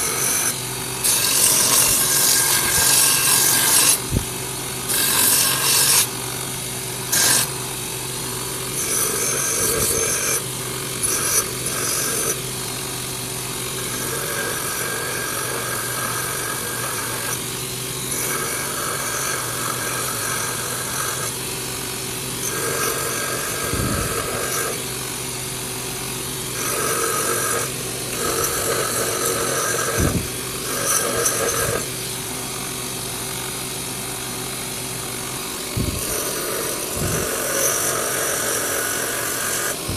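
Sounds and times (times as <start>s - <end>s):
bench grinder humming: 0.0s - 39.9s
blade grinding on sanding belt: 0.0s - 39.9s.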